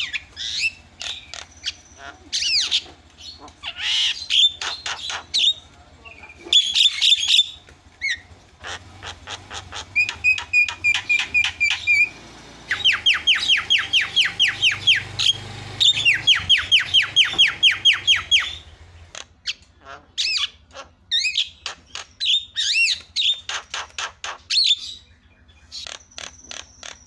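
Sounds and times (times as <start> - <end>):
myna calling: 0.0 - 24.9.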